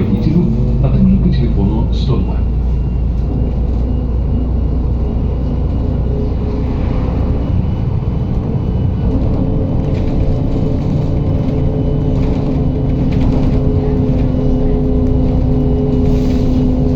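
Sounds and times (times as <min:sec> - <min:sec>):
bus engine drone: 0:00.0 - 0:16.9
road rumble: 0:00.0 - 0:16.9.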